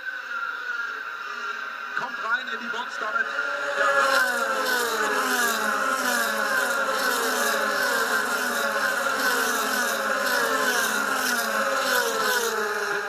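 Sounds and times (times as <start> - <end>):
race car engines passing: 0.1 - 13.0.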